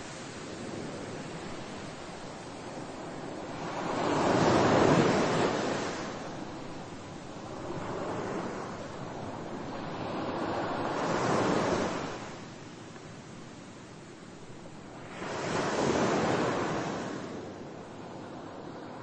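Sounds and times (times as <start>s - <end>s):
waves washing in: 0.0s - 17.6s.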